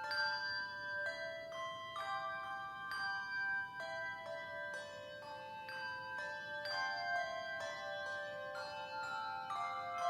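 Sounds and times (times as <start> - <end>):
handbells playing hymn melody: 0.0 - 10.0.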